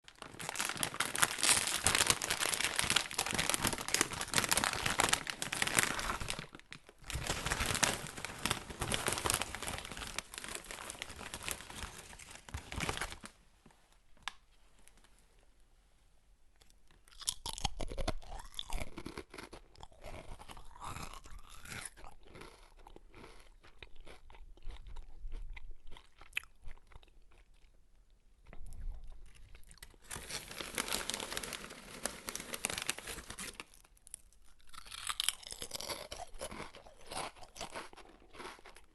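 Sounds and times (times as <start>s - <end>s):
person crunching potato chips: 0.0s - 13.3s, 16.6s - 27.8s, 28.6s - 38.9s.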